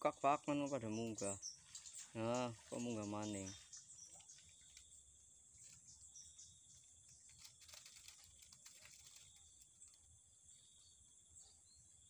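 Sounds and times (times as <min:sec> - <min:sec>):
insects chirring: 0:00.0 - 0:12.0
faint ticks and rustles: 0:01.0 - 0:11.5.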